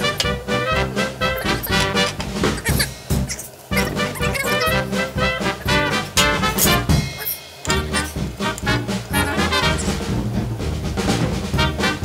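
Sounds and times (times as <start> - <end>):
swing jazz music with brass: 0.0 - 12.0.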